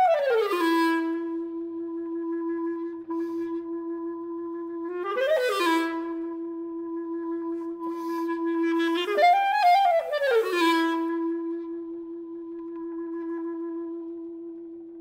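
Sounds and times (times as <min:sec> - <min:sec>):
solo clarinet: 0:00.0 - 0:15.0.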